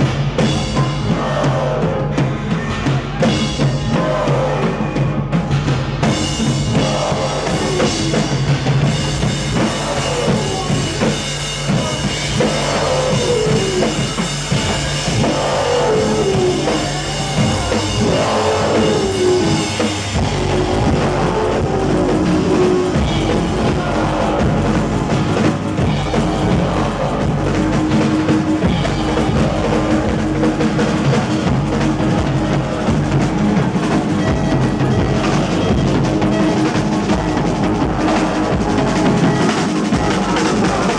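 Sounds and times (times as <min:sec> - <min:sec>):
bass line: 0:00.0 - 0:40.9
drum kit: 0:00.0 - 0:40.9.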